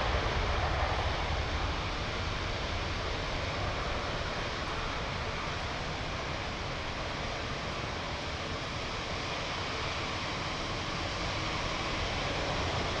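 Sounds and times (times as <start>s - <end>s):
jet engines roaring at take-off: 0.0s - 13.0s.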